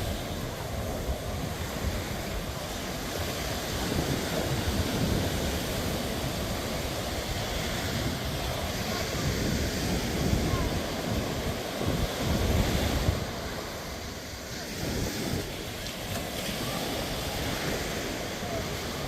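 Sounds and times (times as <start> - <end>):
sea surf breaking on beach: 0.0 - 19.0
wind rumbling on microphone: 0.0 - 19.0.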